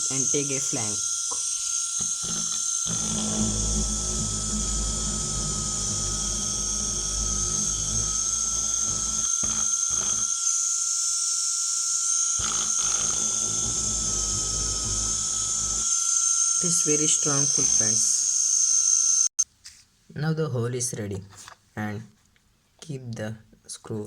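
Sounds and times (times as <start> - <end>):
electric drill whining: 0.0 - 19.3.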